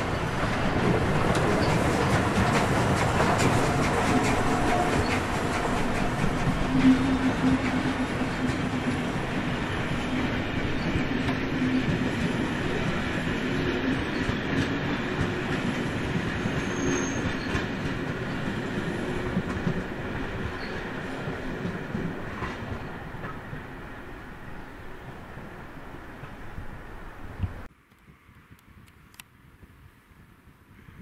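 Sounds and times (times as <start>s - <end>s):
coaches running on rails: 0.0s - 27.7s
steam train rolling past: 0.0s - 27.7s.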